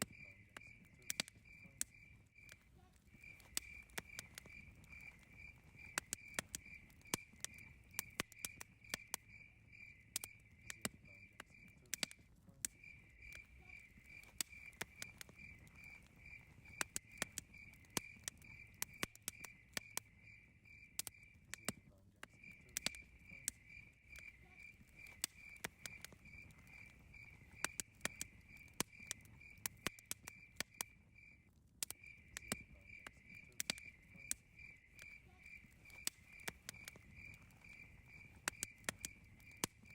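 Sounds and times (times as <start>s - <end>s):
campfire crackling and popping: 0.0s - 39.9s
cricket chirping: 0.0s - 39.9s.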